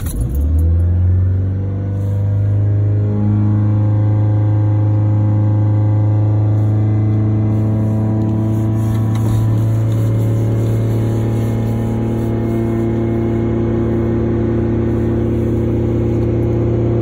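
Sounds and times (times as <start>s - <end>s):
car engine idling high: 1.4s - 17.0s.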